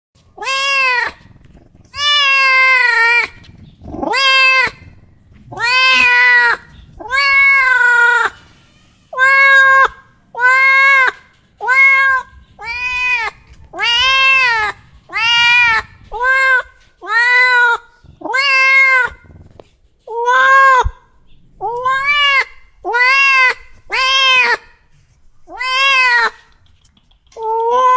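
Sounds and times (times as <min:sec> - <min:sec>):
cat meowing: 0:00.2 - 0:26.6, 0:27.4 - 0:27.9.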